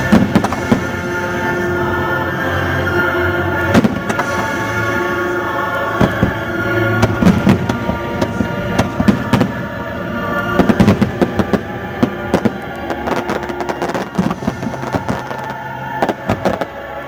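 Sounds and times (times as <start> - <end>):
fireworks bursting: 0.0 - 17.0
loud show music: 0.0 - 17.0.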